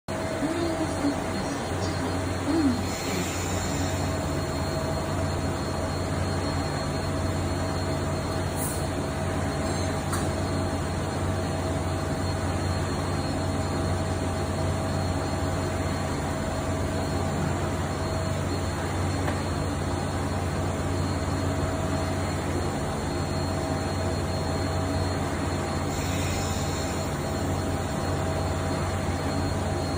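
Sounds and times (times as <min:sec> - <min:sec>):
lathe machine hum and whir: 0:00.1 - 0:29.9
thin steady tone: 0:00.1 - 0:29.9.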